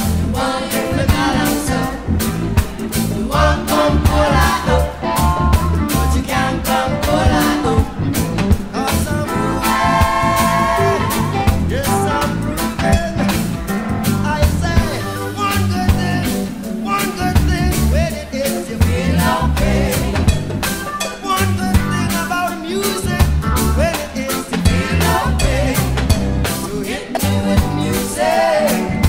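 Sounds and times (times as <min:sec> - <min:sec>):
upbeat ska song with singing: 0:00.0 - 0:29.0.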